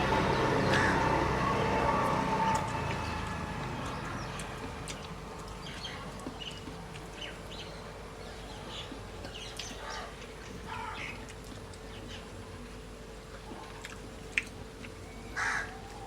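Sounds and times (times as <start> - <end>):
birds chirping: 0.0 - 12.5, 14.9 - 16.0
faint steady hum: 0.0 - 16.0.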